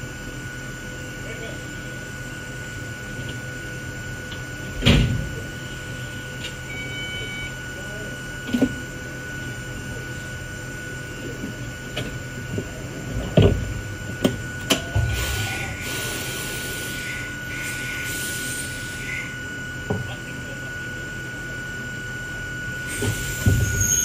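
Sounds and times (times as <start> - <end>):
railcar motor whine: 0.0 - 24.0.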